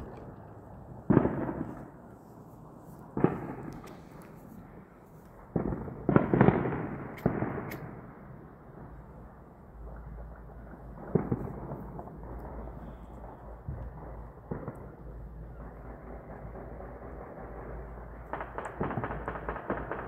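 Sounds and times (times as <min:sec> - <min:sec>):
fireworks booming with rumbling echo: 0:00.0 - 0:20.0.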